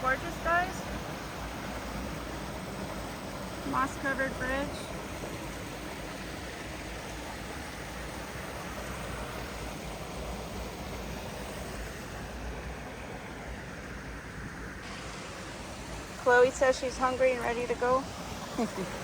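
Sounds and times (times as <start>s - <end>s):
small waterfall rushing: 0.0s - 19.0s.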